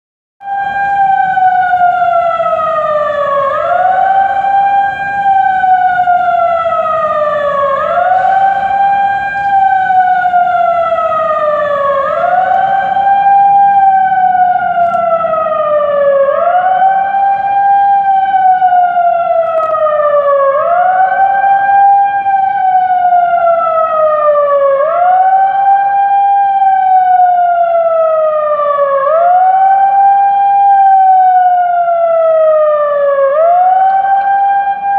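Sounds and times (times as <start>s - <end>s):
electronic siren wailing: 0.4s - 34.9s.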